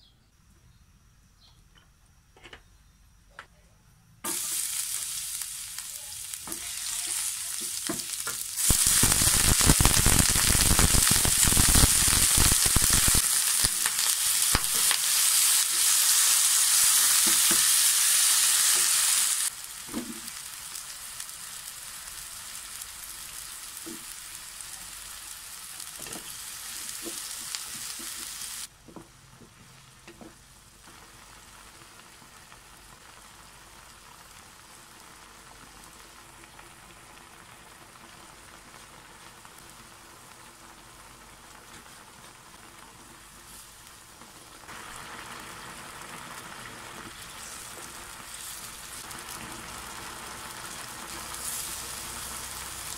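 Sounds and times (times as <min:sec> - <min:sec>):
beef sizzling in frying pan: 0:04.2 - 0:28.7, 0:30.6 - 0:52.9.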